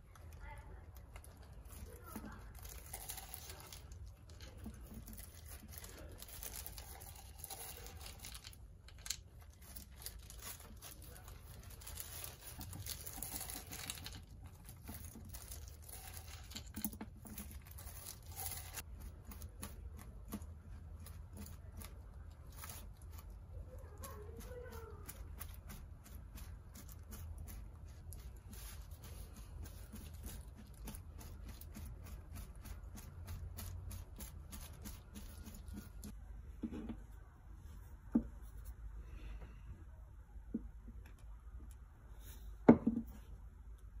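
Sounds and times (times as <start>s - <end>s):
plastic gloves crinkling: 0.0s - 36.2s.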